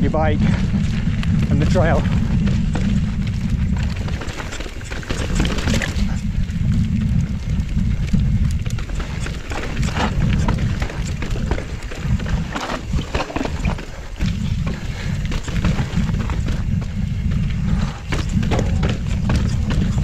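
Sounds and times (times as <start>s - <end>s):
bike rattling: 0.0s - 20.0s
low rumble of tyres and wind: 0.0s - 20.0s.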